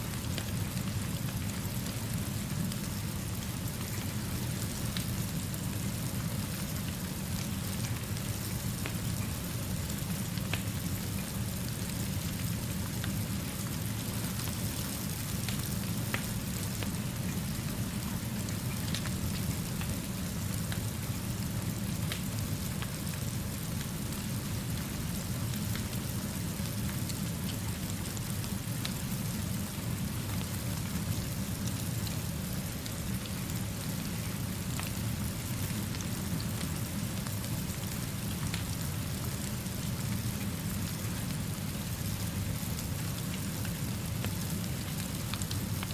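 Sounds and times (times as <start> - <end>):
steady rainfall: 0.0 - 45.9.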